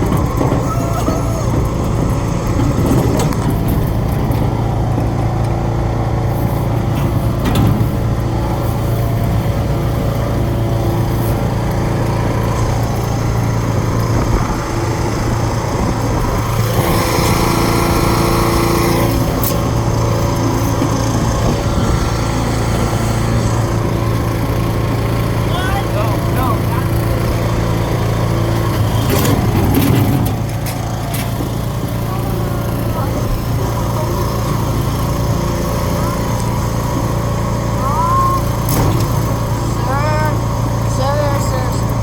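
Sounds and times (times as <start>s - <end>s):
lawnmower engine running: 0.0s - 42.0s.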